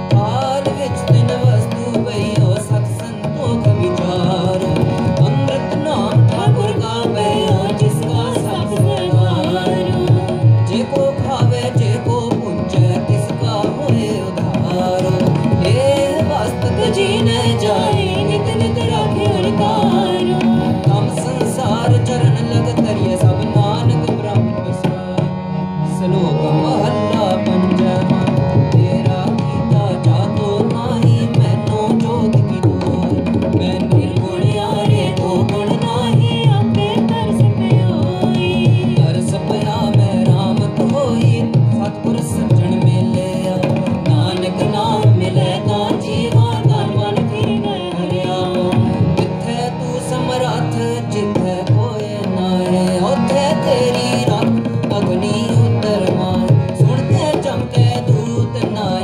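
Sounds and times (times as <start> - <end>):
tabla playing: 0.0 - 59.0.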